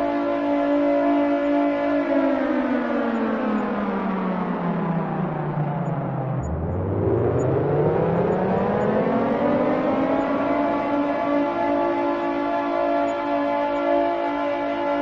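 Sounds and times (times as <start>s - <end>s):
air-raid siren wailing: 0.0s - 15.0s.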